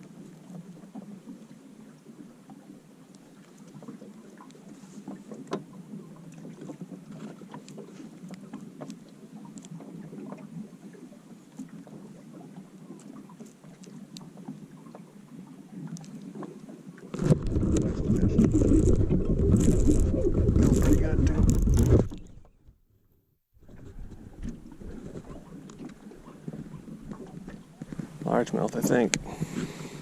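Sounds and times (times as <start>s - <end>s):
boat hull and water noise: 0.0s - 30.0s.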